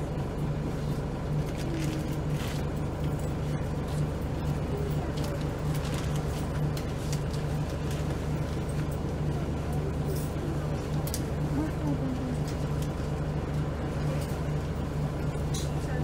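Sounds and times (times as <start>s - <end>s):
bus diesel engine hum: 0.0s - 16.0s.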